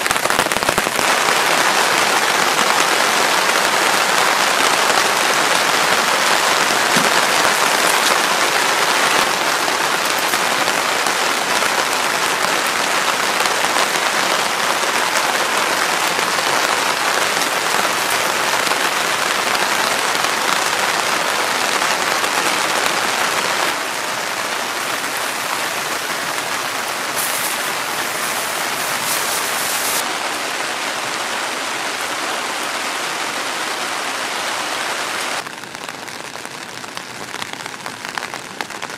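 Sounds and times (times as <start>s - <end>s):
heavy rain on a tarp: 0.0s - 38.9s.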